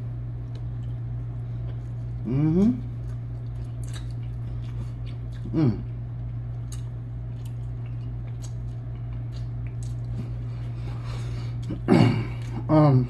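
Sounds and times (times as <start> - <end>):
man chewing with wet mouth sounds: 0.0 - 13.0
steady low hum: 0.0 - 13.0.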